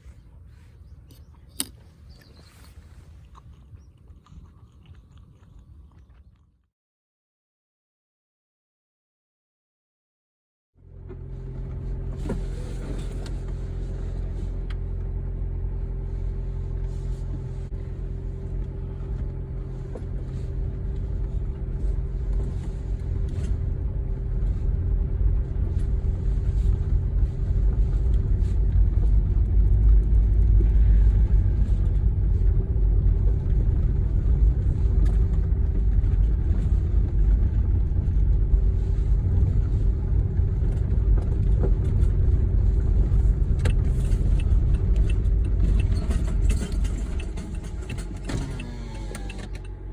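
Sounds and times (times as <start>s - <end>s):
car engine and road rumble: 0.0s - 6.4s, 10.8s - 49.9s.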